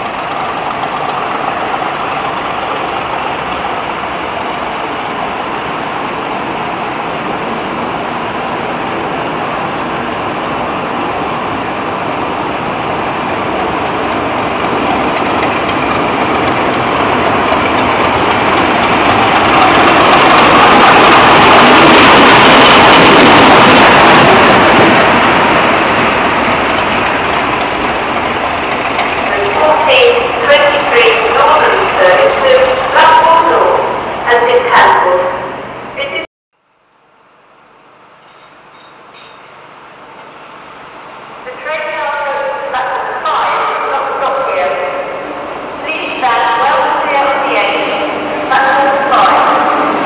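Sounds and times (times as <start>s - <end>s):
diesel locomotives passing: 0.0s - 36.3s, 37.4s - 50.0s.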